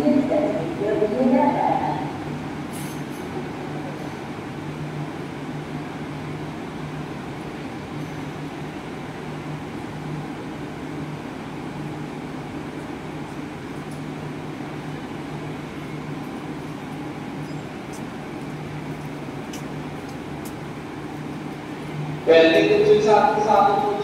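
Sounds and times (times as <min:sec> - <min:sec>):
electric train humming: 0:00.0 - 0:02.7, 0:03.3 - 0:24.0.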